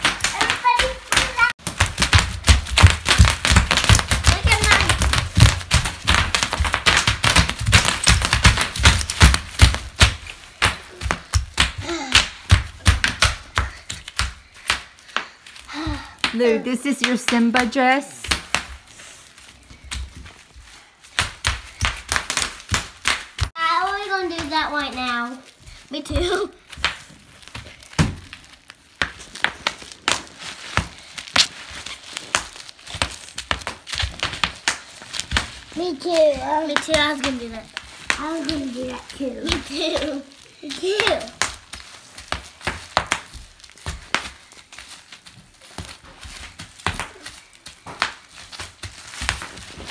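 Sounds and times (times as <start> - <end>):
feet thumping on wood floor: 0.0 - 25.0, 25.6 - 49.9
bubble wrap popping: 0.0 - 49.9
plastic crinkling: 0.0 - 49.9.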